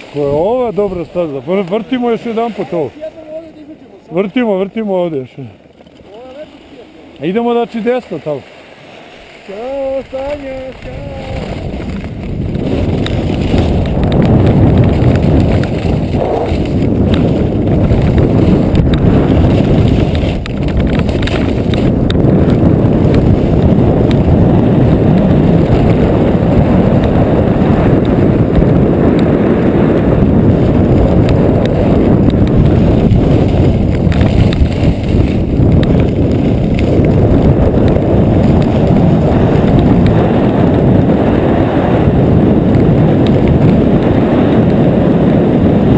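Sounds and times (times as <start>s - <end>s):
skis scraping over snow: 0.0s - 45.9s
wind rushing over microphone: 0.0s - 45.9s.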